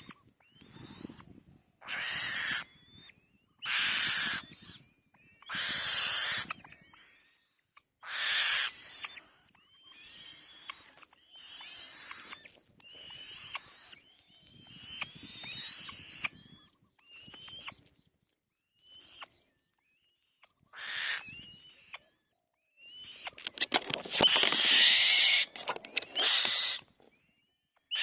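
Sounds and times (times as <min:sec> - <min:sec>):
nestlings whistled peeps: 0:00.0 - 0:28.0.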